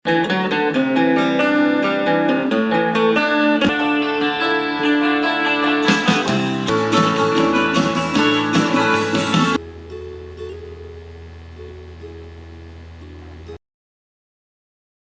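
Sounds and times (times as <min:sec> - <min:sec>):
guitar plucked and strummed: 0:00.0 - 0:13.6.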